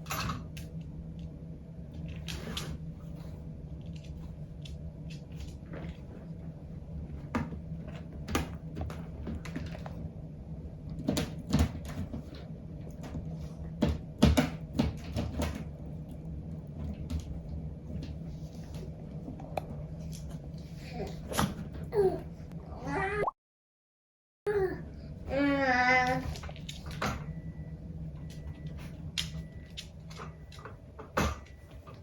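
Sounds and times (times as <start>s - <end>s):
steady low hum: 0.0s - 23.2s, 24.5s - 32.0s.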